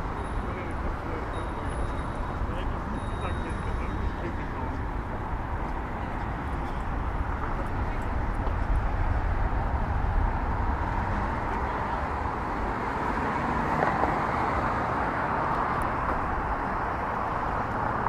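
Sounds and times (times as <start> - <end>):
city street ambience: 0.0 - 18.0.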